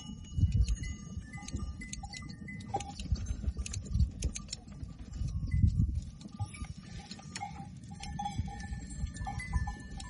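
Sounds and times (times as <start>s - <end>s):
high metallic clinks: 0.0s - 10.0s
wind rumble on microphone: 0.0s - 10.0s.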